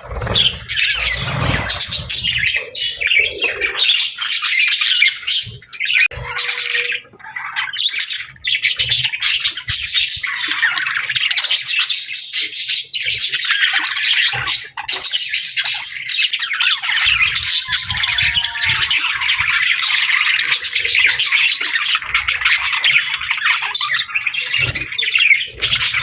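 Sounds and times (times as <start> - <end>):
flock of parrots chattering: 0.0 - 26.0.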